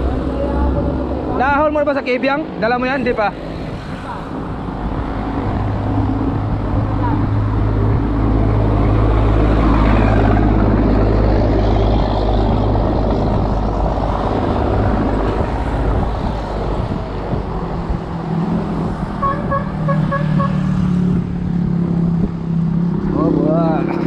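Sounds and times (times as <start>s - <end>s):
vehicle engine: 0.0s - 24.0s.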